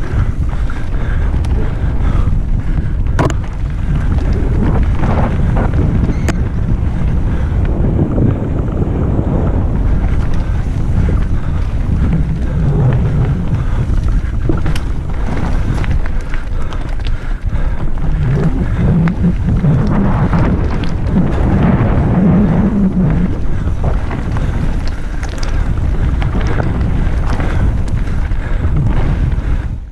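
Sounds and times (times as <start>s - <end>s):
bike rattling over stones: 0.0s - 29.9s
tyres rumbling on gravel: 0.0s - 29.9s
wind buffeting microphone: 0.0s - 29.9s.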